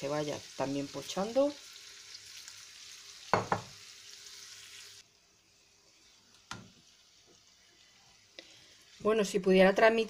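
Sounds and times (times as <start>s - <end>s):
onion and garlic sizzling in oil: 0.0s - 10.0s.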